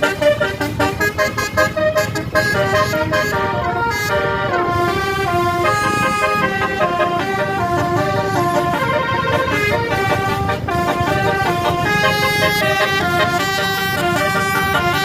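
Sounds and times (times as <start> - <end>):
musical bus horn melody: 0.0 - 15.0.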